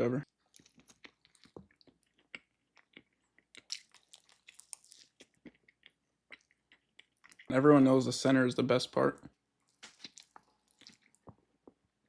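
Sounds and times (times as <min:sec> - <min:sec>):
chewing and mouth noises: 0:00.2 - 0:07.6, 0:09.2 - 0:11.8.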